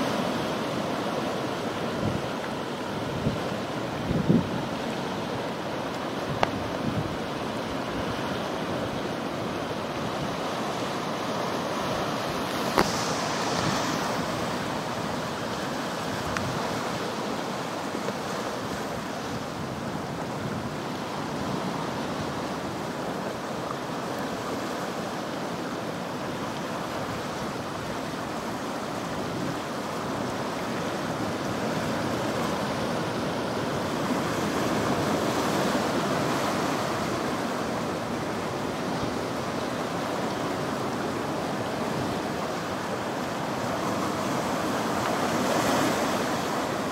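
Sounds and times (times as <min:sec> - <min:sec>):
ocean surf: 0:00.0 - 0:46.9.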